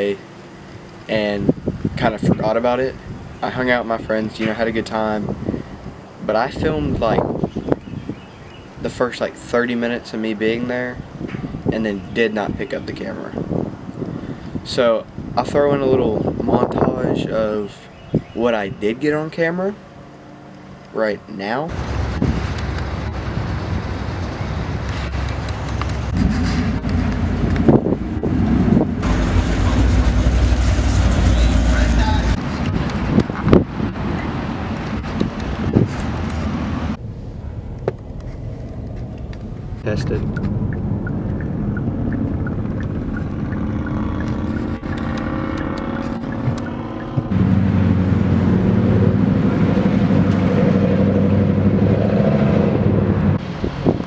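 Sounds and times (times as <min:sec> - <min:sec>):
road noise: 0:00.0 - 0:54.0
vehicle engines rumbling: 0:00.0 - 0:54.0.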